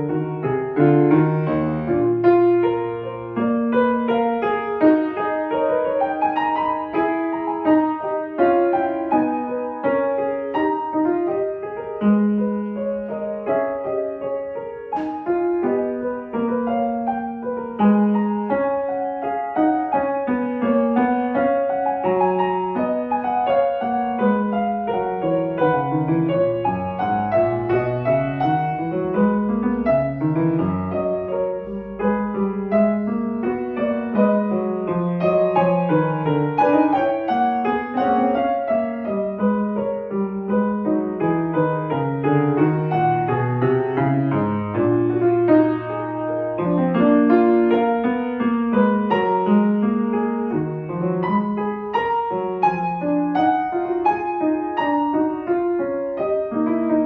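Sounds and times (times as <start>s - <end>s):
solo classical piano: 0.0s - 57.0s.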